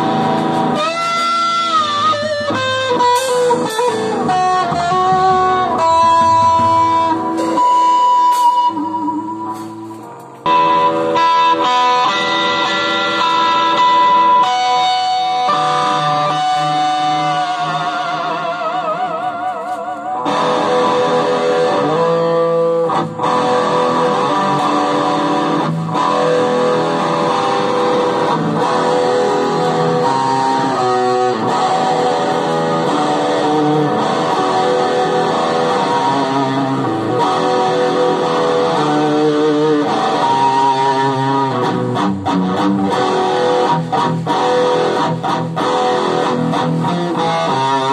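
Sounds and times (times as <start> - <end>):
solo electric guitar: 0.0 - 47.9.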